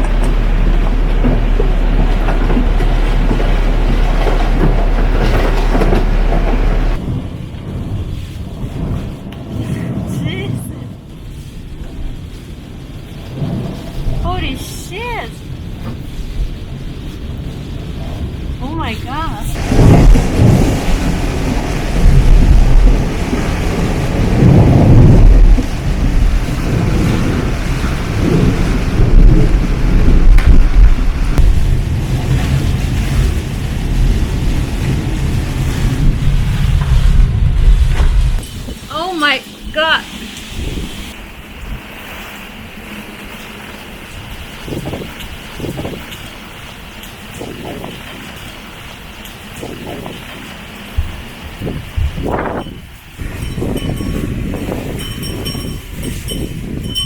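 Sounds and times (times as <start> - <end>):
train rumble with wheel clatter: 0.0 - 57.0
typhoon wind and rain on microphone: 0.0 - 57.0.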